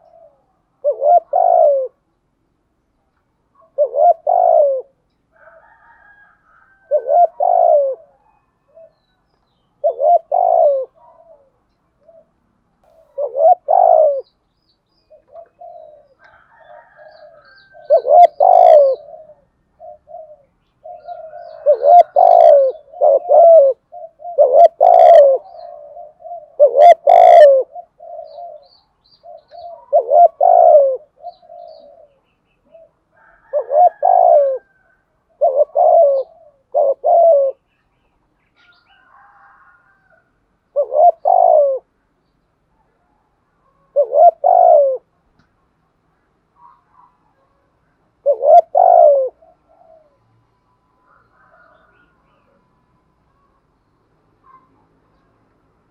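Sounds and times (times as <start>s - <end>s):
dove cooing: 0.0s - 2.1s, 3.4s - 14.4s, 15.0s - 37.8s, 38.6s - 42.0s, 42.8s - 45.3s, 46.5s - 50.4s, 51.0s - 52.8s.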